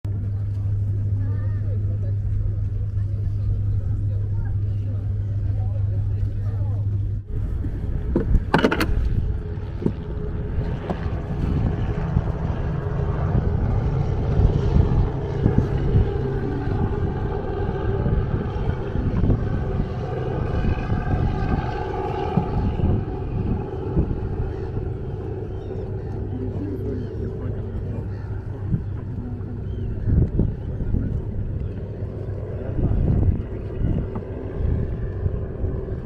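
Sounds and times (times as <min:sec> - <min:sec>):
boat engine rumbling: 0:00.0 - 0:36.0
wind buffeting microphone: 0:00.1 - 0:36.0.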